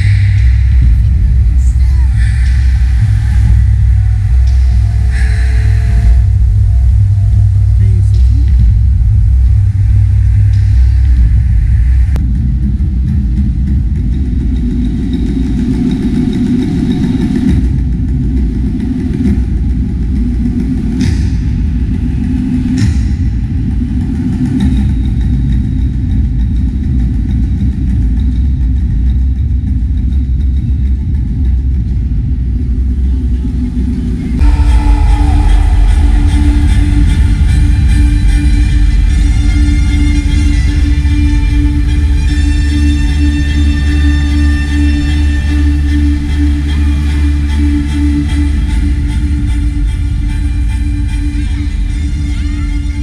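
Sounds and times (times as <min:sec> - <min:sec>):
deep rumble from sound system: 0:00.0 - 0:15.9, 0:17.4 - 0:53.0.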